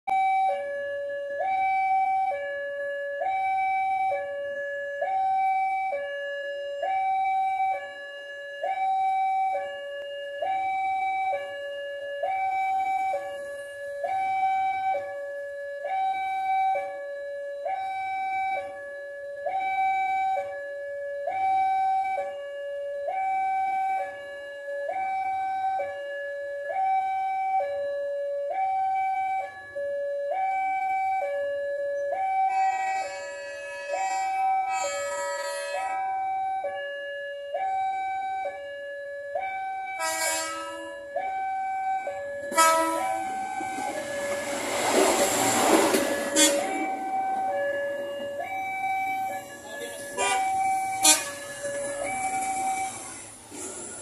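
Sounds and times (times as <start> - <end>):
two-tone level-crossing alarm: 0.1 - 54.0.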